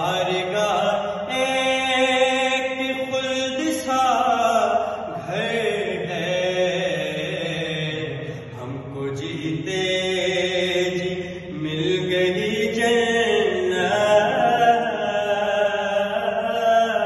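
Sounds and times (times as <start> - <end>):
man chanting devotional poem: 0.0 - 17.0.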